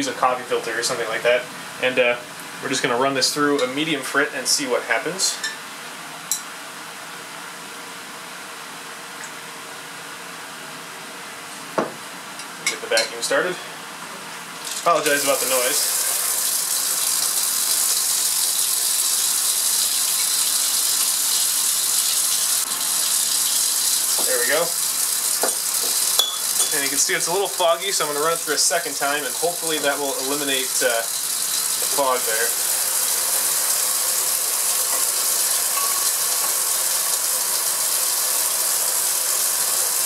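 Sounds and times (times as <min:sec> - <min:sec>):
vacuum filtration hiss: 0:00.0 - 0:40.0.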